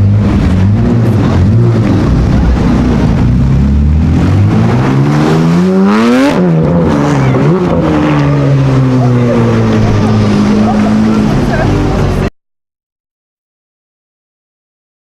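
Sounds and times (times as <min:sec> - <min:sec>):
sports car engine accelerating: 0:00.0 - 0:12.3.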